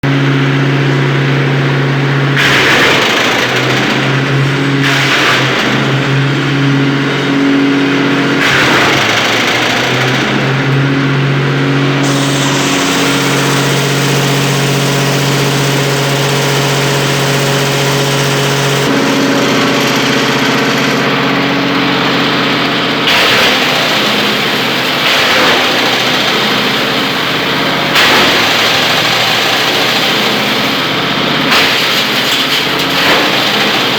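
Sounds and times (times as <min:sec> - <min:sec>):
wood chipper engine running: 0:00.0 - 0:33.9.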